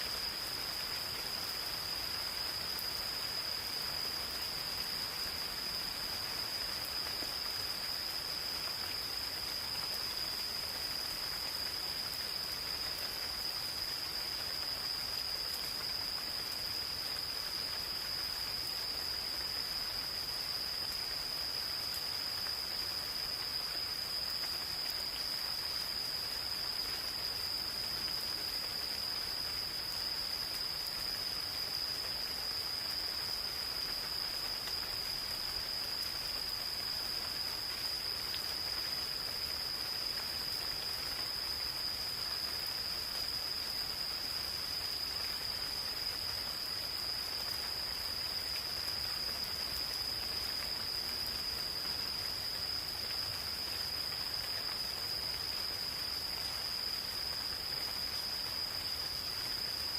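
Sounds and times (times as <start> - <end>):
insects trilling: 0.0 - 59.9
rain falling on foliage: 0.0 - 59.9.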